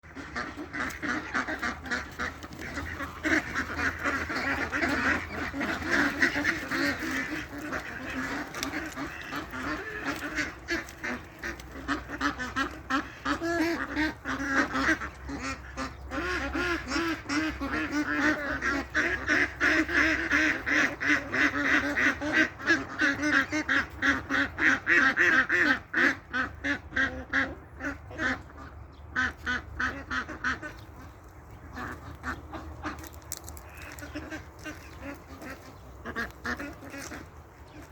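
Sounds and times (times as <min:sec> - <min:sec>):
waterfowl calling: 0:00.0 - 0:37.9.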